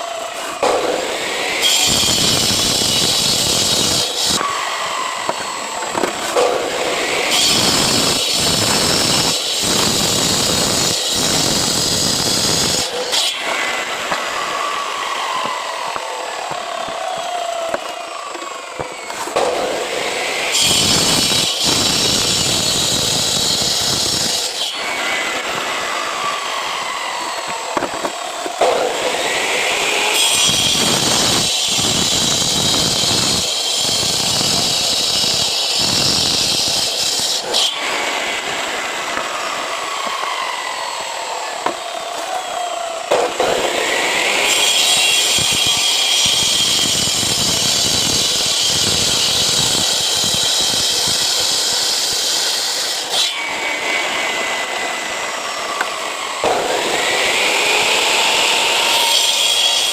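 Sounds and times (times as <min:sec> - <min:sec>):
power cutter cutting concrete: 0:00.0 - 0:59.9.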